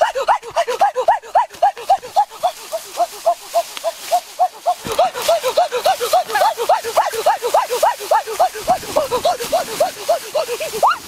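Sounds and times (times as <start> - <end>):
turkey calling: 0.0 - 11.0.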